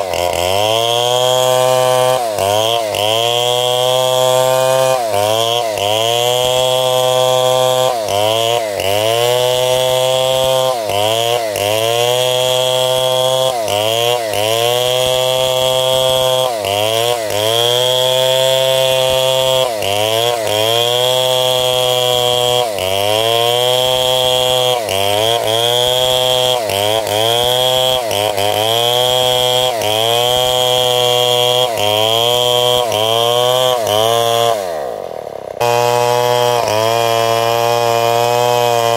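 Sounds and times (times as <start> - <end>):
power saw cutting timber: 0.0 - 38.9.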